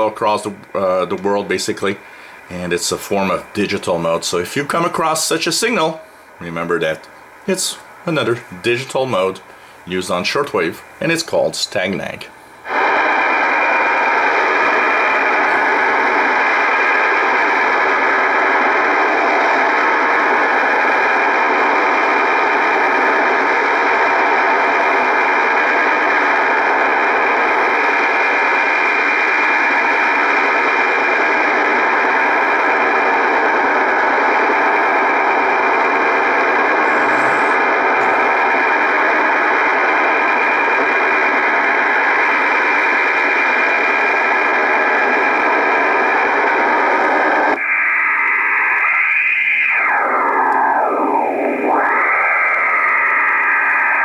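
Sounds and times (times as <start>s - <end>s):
dense data tones over hiss: 0.0s - 54.0s.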